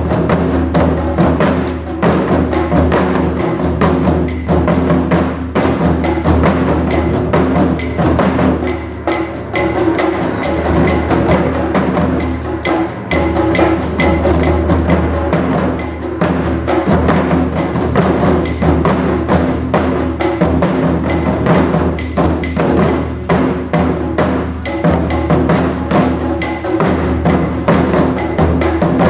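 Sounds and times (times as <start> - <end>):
taiko drum strokes: 0.0 - 29.0.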